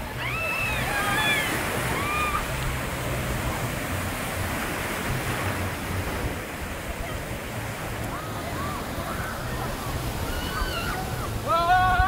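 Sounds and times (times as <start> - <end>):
waves breaking in shallows: 0.0 - 12.0.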